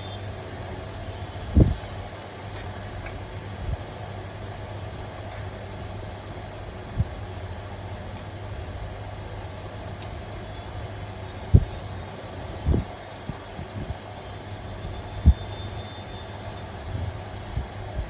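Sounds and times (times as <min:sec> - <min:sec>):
constant noise: 0:00.0 - 0:18.0
low mechanical hum: 0:00.0 - 0:18.0.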